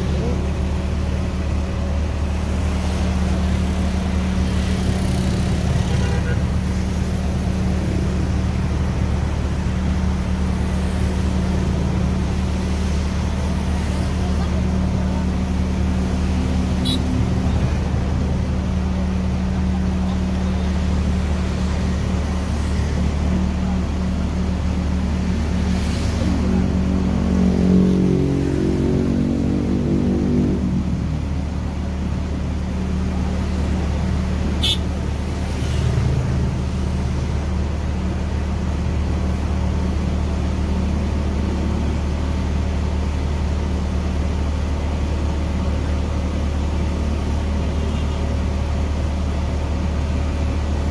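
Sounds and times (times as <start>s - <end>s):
fire engine motor running: 0.0s - 29.8s, 30.6s - 50.9s
passing vehicle engine: 0.0s - 43.7s
road noise: 0.0s - 50.9s.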